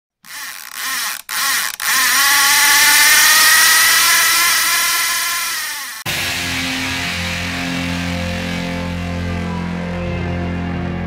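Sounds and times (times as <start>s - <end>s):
loud mechanical whine: 0.3s - 10.5s.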